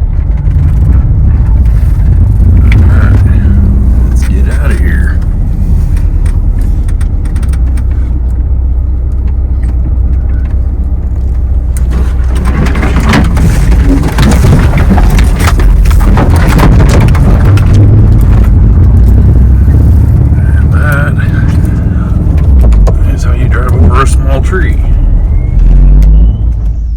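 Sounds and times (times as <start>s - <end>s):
van engine rumbling: 0.0s - 26.9s
tyres crunching over snow: 0.5s - 8.4s, 9.2s - 26.4s.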